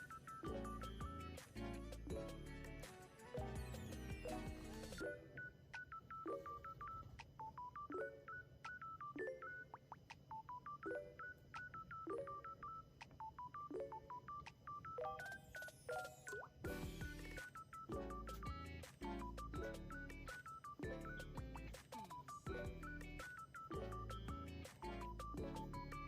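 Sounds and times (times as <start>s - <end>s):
electronic beeping melody: 0.0s - 26.0s.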